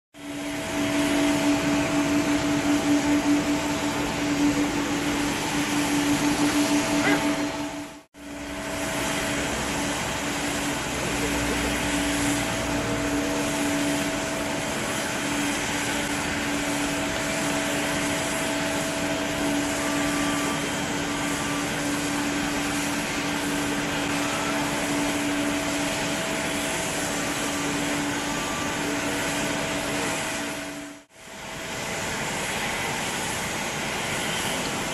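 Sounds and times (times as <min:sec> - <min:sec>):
jet airliner engines running: 0:00.2 - 0:34.9.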